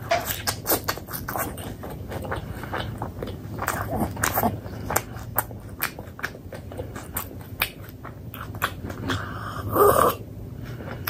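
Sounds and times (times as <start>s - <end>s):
close chewing with wet mouth clicks: 0.0s - 11.0s.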